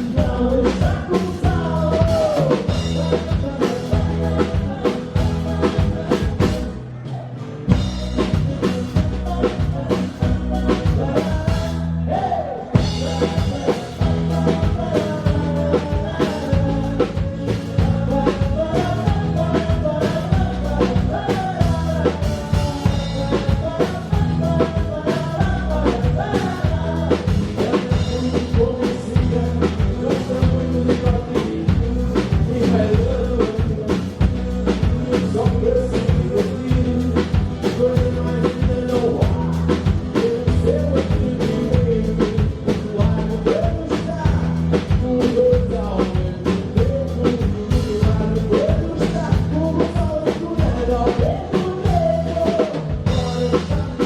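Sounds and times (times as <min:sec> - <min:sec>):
live band playing: 0:00.0 - 0:54.0
person singing: 0:00.0 - 0:54.0.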